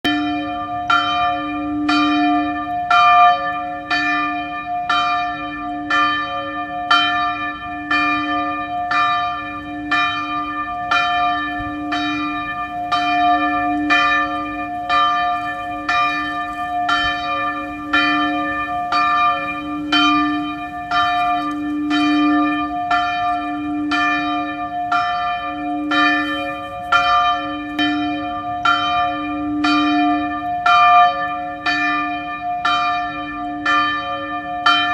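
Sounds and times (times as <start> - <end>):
church bell tolling: 0.0 - 34.9.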